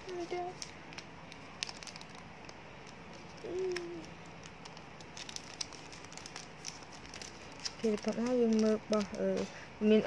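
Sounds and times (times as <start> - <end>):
plastic sleeves crinkling: 0.0 - 10.0.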